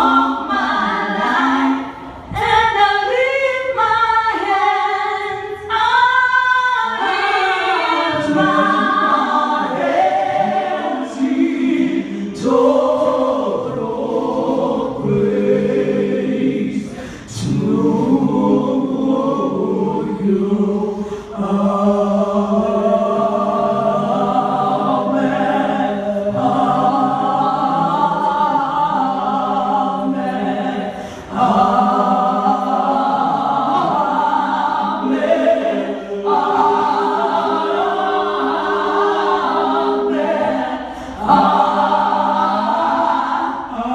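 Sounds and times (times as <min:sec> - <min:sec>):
group singing in harmony: 0:00.0 - 0:43.9.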